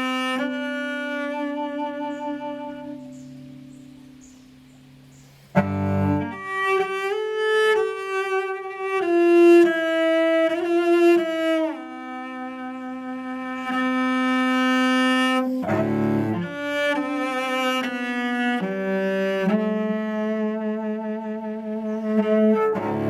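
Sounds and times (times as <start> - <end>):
solo cello melody: 0.0 - 23.0.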